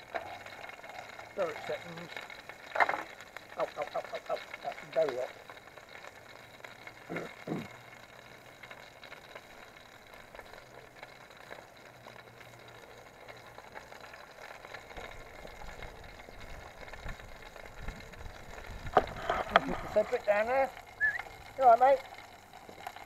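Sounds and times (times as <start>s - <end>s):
burger sizzling in a tin: 0.0s - 23.0s.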